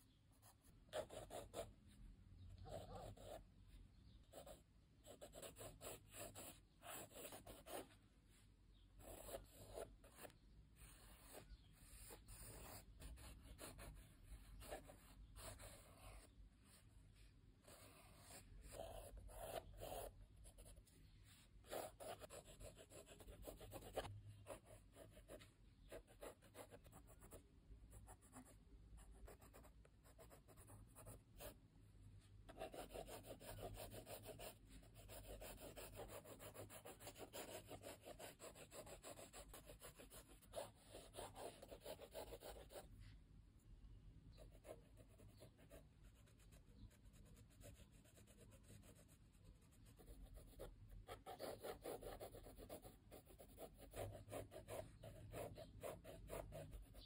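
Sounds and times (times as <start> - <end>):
pencil scratching on paper: 0.4 - 1.8, 2.6 - 3.4, 4.3 - 8.0, 9.0 - 31.6, 32.5 - 43.1, 44.4 - 57.0.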